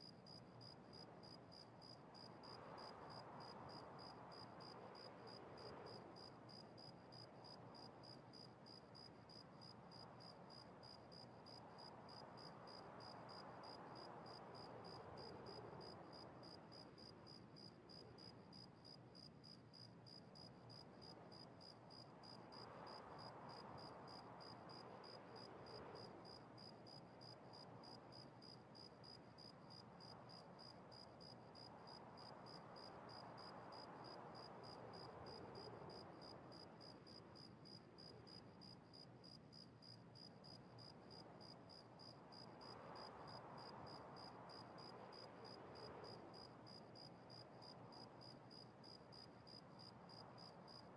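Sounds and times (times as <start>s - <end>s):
faint room hiss: 0.0s - 50.9s.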